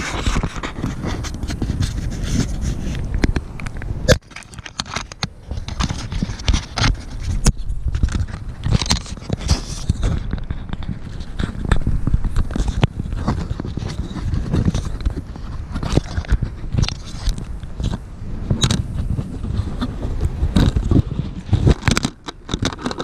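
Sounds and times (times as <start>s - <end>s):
fingers rubbing on camera: 0.0s - 23.0s
muffled rumble: 0.0s - 23.0s.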